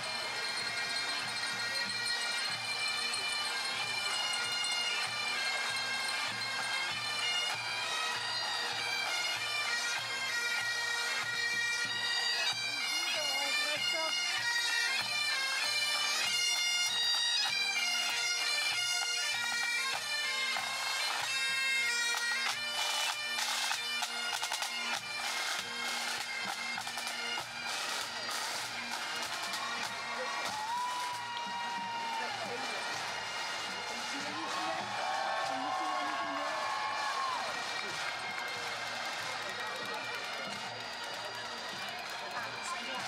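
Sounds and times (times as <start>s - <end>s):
bagpipes playing melody with drones: 0.0s - 43.0s.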